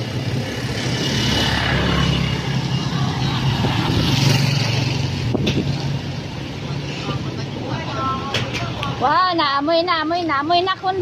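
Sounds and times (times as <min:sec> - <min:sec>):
road noise on wet street: 0:00.0 - 0:11.0
vehicle engine humming: 0:00.0 - 0:11.0.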